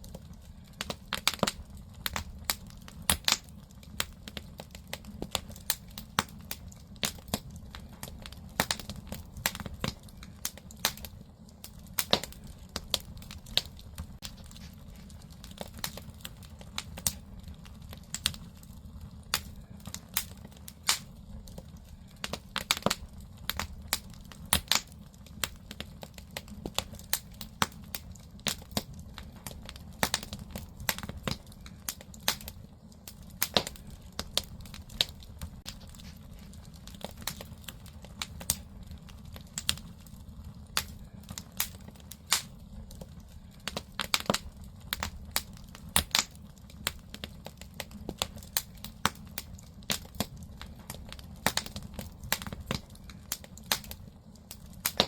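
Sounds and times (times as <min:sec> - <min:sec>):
firewood crackling and popping: 0:00.0 - 0:55.0
low fire rumble: 0:00.0 - 0:55.0.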